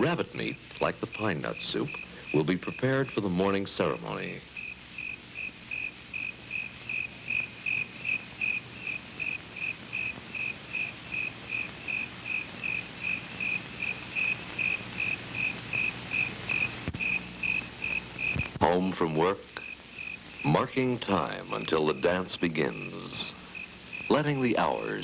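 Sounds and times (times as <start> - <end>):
cricket chirping: 0.1 - 18.6, 19.6 - 25.0.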